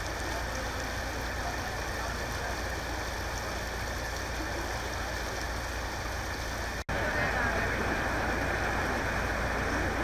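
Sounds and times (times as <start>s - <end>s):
floodwater rushing: 0.0s - 10.0s
low engine rumble: 0.0s - 10.0s.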